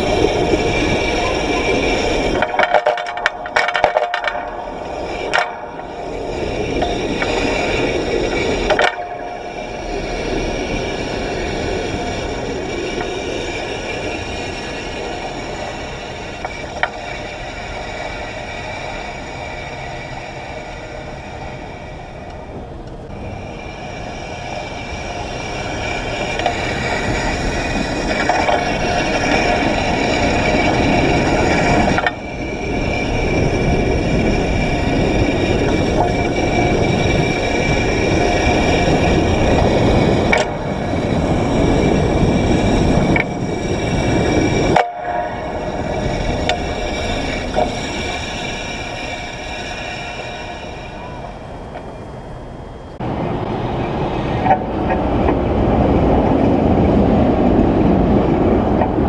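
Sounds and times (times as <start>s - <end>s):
trolley pole scraping whir: 0.0s - 59.0s.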